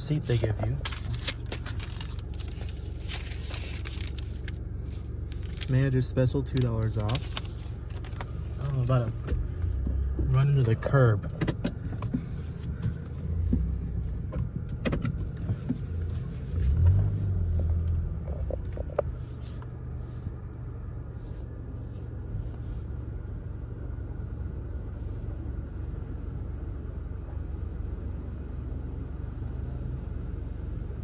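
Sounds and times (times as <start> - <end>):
car engine rumble inside cabin: 0.0 - 31.0.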